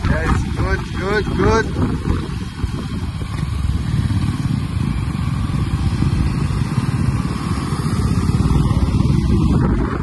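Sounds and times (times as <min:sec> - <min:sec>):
motorcycles idling: 0:00.0 - 0:10.0.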